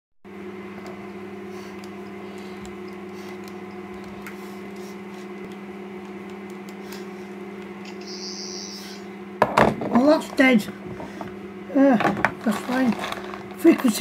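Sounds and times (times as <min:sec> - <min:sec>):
electrical hum: 0:00.3 - 0:14.0.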